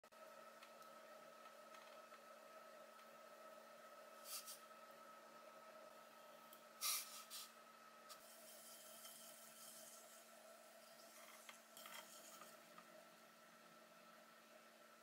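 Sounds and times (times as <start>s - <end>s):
potter's wheel hum: 0.1s - 15.0s.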